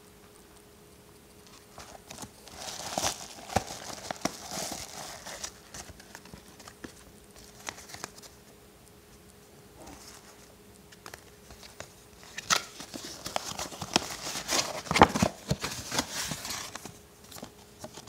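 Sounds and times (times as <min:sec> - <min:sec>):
padded envelope crinkling: 0:01.5 - 0:08.4, 0:09.9 - 0:18.0.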